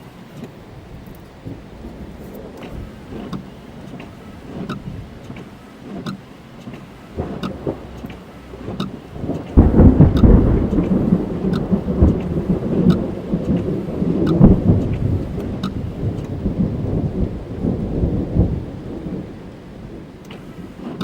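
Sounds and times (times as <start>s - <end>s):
rain drumming on car roof: 0.0s - 21.0s
thunder rumbling: 0.6s - 5.4s, 7.0s - 21.0s.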